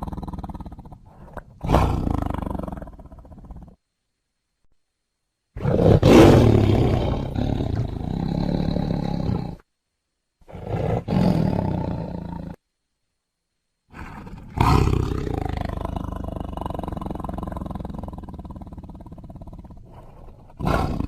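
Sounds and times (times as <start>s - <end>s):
tiger roaring: 0.0s - 3.8s, 5.6s - 9.6s, 10.4s - 12.6s, 13.9s - 21.0s.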